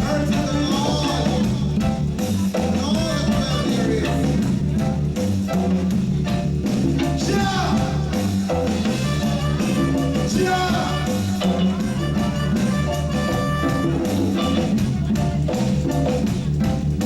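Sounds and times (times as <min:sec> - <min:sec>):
live reggae band playing: 0:00.0 - 0:17.0.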